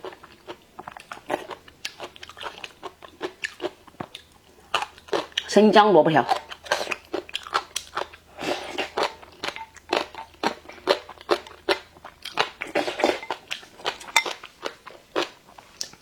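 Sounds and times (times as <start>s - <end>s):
crunchy chewing: 0.0s - 5.5s, 6.3s - 16.0s.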